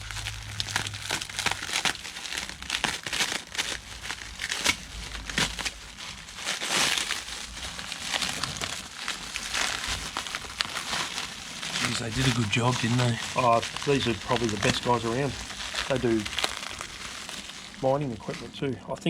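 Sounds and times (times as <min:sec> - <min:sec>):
plastic wrap crinkling: 0:00.0 - 0:19.0.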